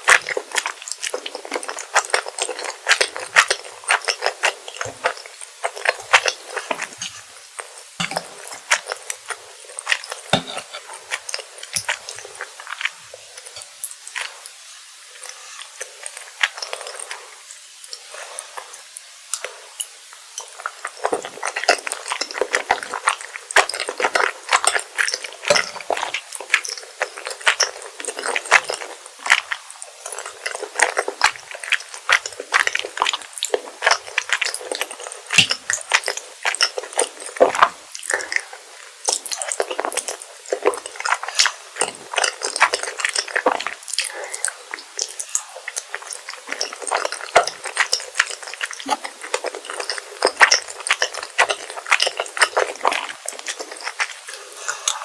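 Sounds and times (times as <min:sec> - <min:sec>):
close chewing with wet mouth clicks: 0:00.0 - 0:14.6, 0:15.2 - 0:17.2, 0:17.8 - 0:55.0.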